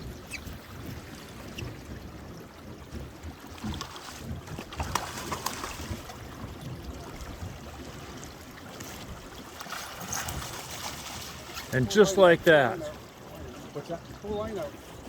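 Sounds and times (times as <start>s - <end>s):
water lapping around a boat: 0.0s - 15.0s.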